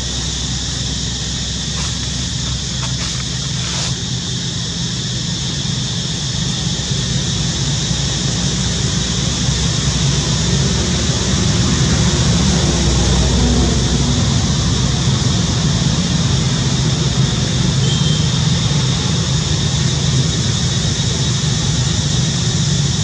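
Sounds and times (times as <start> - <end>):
high hiss: 0.0 - 23.0.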